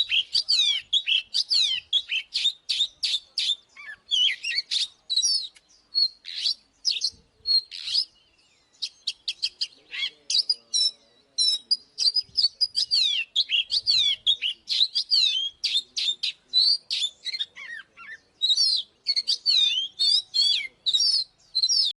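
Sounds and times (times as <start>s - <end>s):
bird singing whistles: 0.0s - 22.0s.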